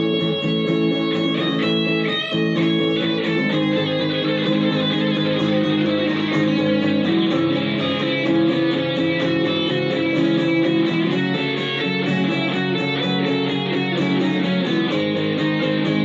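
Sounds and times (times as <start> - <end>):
electric guitar playing: 0.0 - 16.0.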